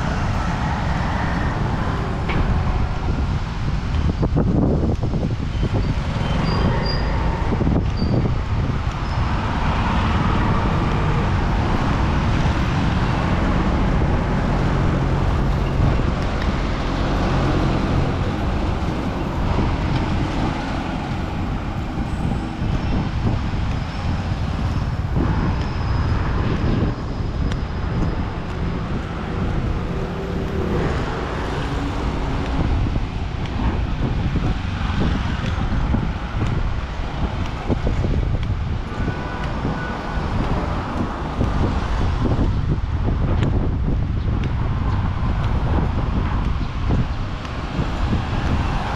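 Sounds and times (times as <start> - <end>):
city street traffic: 0.0 - 48.9.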